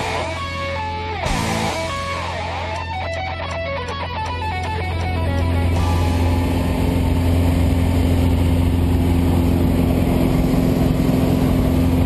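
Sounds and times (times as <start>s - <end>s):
plane engine and propeller drone: 0.0s - 12.0s.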